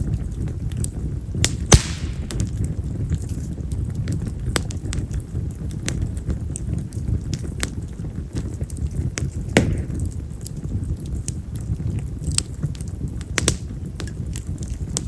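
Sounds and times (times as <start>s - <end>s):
firewood crackling and popping: 0.0s - 15.0s
low rush of flame: 0.0s - 15.0s.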